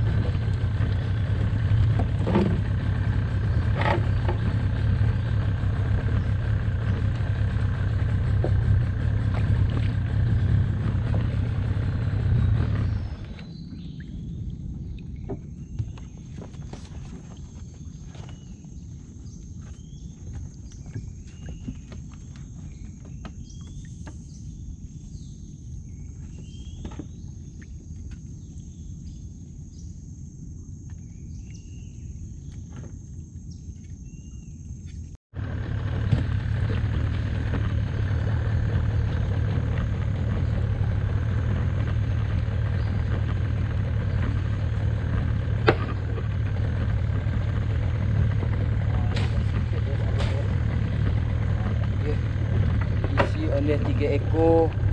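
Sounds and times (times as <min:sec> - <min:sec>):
boat engine humming: 0:00.0 - 0:29.6, 0:30.7 - 0:54.9
birds chirping: 0:00.0 - 0:35.0, 0:36.2 - 0:54.9.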